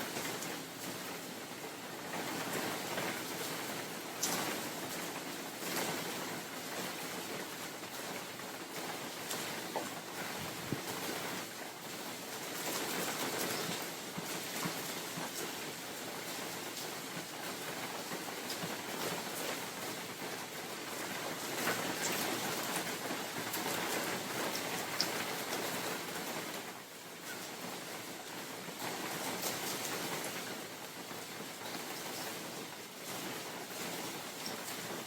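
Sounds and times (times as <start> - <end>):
raindrops ticking close by: 0.0 - 35.0.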